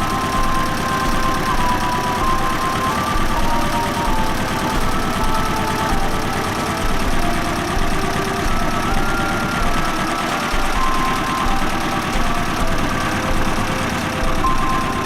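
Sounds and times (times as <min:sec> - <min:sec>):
tractor engine idling with knocking: 0:00.0 - 0:15.0.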